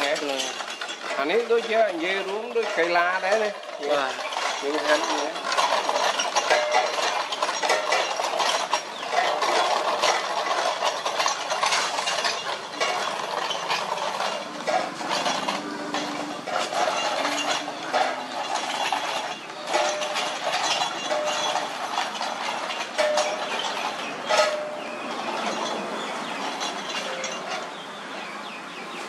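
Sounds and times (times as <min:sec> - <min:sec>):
gears clattering: 0:00.0 - 0:28.0.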